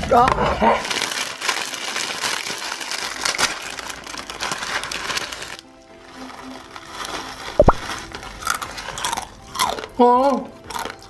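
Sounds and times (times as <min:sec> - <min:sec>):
plastic packaging crinkling: 0:00.0 - 0:10.0
background music: 0:00.0 - 0:11.0.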